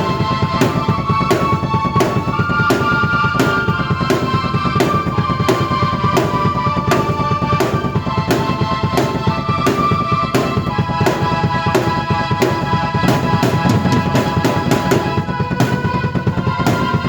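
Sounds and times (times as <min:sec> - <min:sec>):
busy bass drum: 0:00.0 - 0:17.0
drum kit beat: 0:00.0 - 0:17.0
held keyboard notes: 0:00.0 - 0:17.0.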